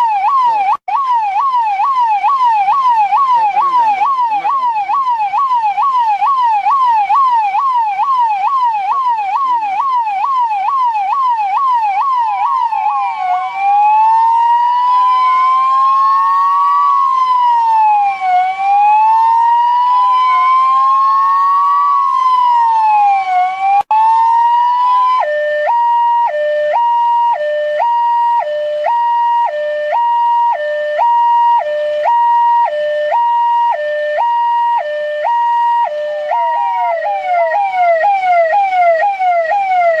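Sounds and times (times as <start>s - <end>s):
electronic siren yelp: 0.0s - 40.0s
siren wail rising and falling: 0.0s - 40.0s
two-tone hi-lo siren: 0.0s - 40.0s.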